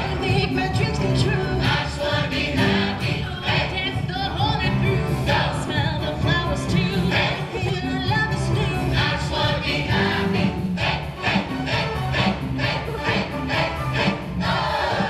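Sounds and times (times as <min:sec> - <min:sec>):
sustained bass notes: 0:00.0 - 0:15.0
voices singing: 0:00.0 - 0:15.0.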